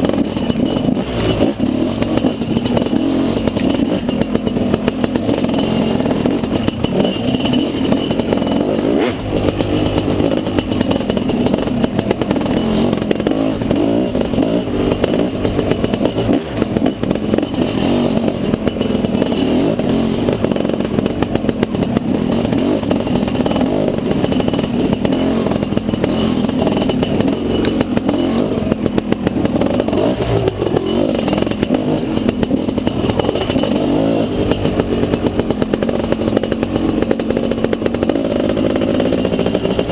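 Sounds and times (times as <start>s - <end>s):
bike clattering over rough ground: 0.0s - 39.9s
dirt bike engine revving: 0.0s - 39.9s.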